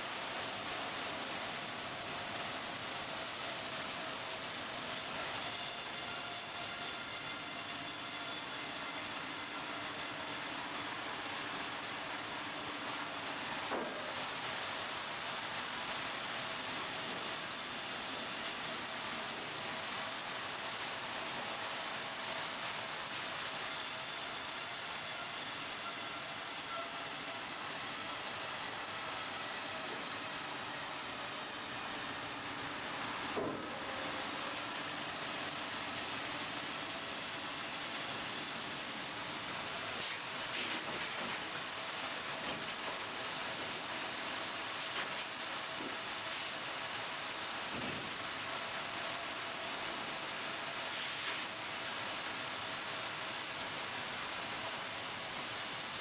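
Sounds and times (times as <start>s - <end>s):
sawmill machinery humming: 0.0s - 56.0s.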